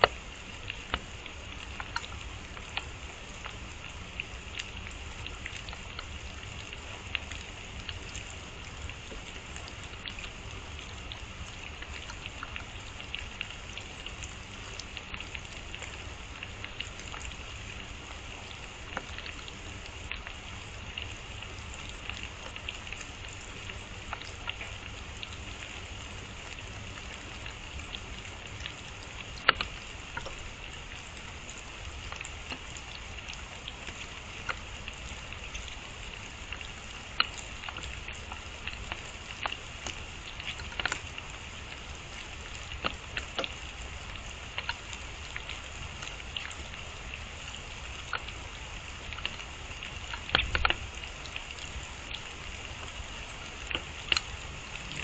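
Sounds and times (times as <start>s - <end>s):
drops ticking on leaves: 0.0s - 55.0s
rain falling through woodland: 0.0s - 55.0s.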